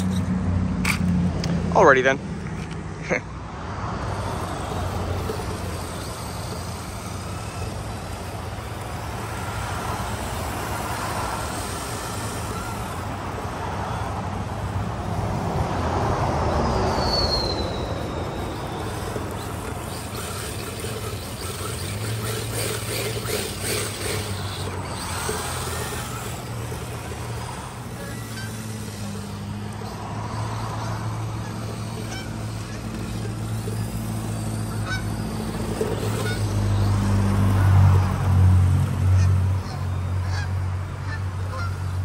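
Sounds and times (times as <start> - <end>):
electric motor whine: 3.8 - 38.8.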